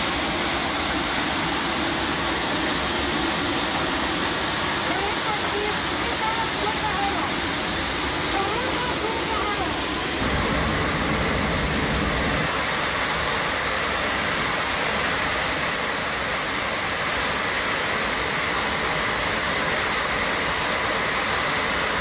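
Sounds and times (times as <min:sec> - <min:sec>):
airliner cabin roar: 0:00.0 - 0:22.0.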